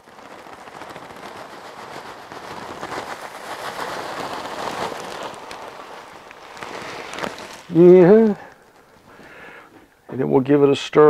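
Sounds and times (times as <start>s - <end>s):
corn flakes pouring into pot: 0.0s - 9.5s.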